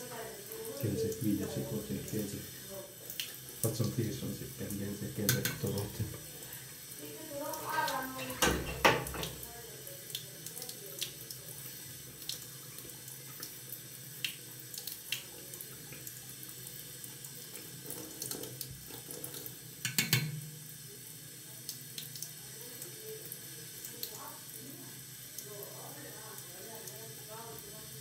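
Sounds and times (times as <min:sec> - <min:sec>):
tap water running into sink: 0:00.0 - 0:28.0.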